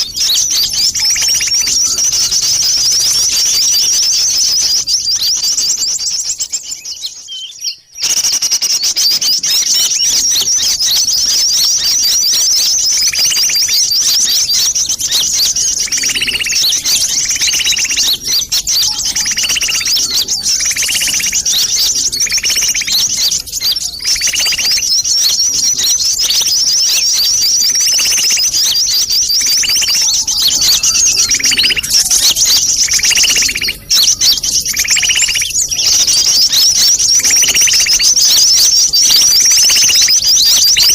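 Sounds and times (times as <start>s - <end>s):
lower bird call: 0.0s - 40.9s
small birds twittering: 0.0s - 40.9s.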